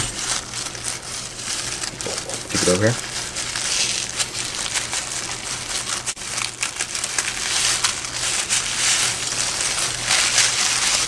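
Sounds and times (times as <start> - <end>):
packaging wrap crinkling: 0.0 - 11.0.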